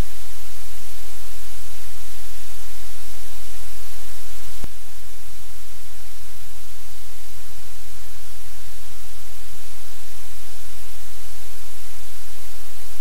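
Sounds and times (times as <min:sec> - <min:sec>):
loud static hiss: 0:00.0 - 0:13.0
low electrical hum: 0:00.0 - 0:13.0.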